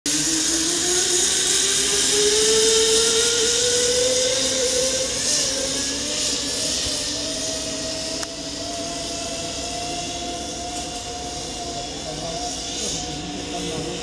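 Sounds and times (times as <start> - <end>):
hiss: 0.1 - 14.0
zipline pulleys whining on cable: 0.1 - 14.0.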